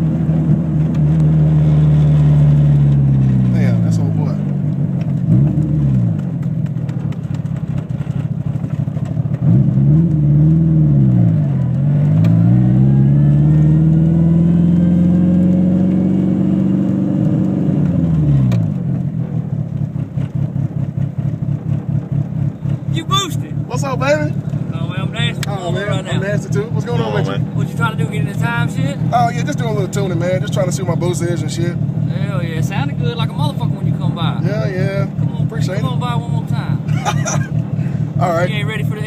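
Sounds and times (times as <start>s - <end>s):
turbocharged car engine revving: 0.0s - 39.0s.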